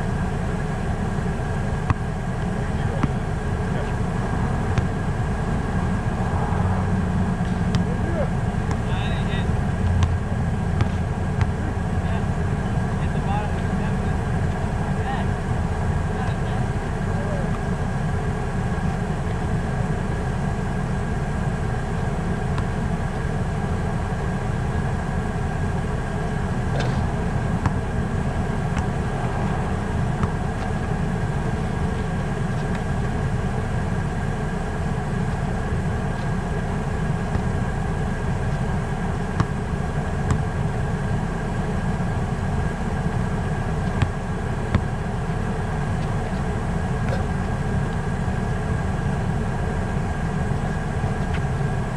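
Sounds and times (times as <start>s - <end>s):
low rumble with hum: 0.0s - 51.9s.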